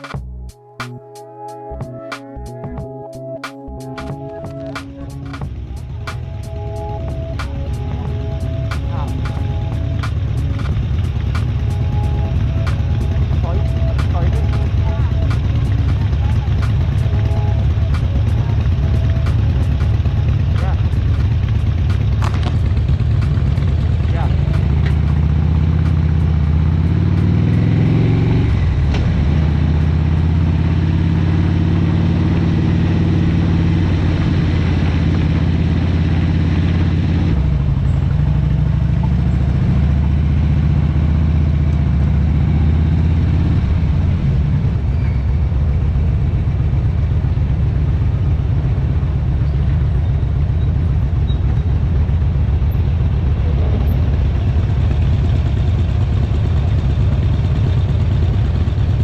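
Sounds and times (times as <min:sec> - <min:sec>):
motorcycle engine running: 0:04.1 - 0:59.0.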